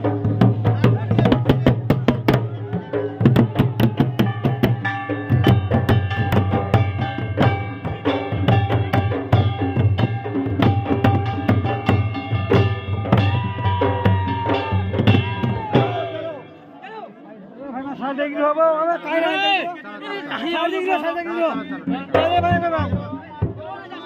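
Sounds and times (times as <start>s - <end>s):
drums beaten with sticks: 0.0s - 16.5s, 20.9s - 24.0s.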